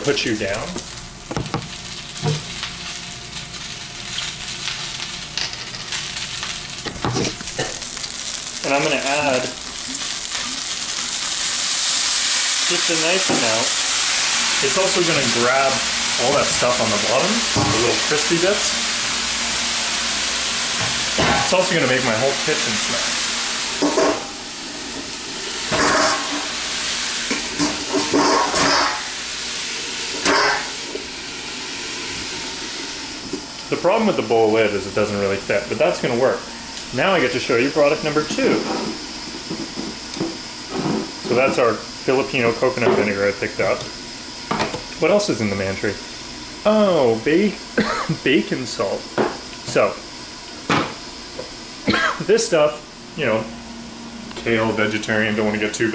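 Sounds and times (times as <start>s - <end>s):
kale sizzling in a hot pan: 0.0s - 51.8s.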